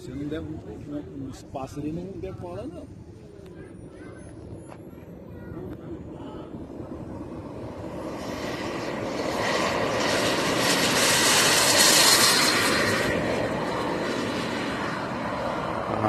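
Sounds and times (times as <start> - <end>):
model jet turbine whine: 0.0 - 16.0.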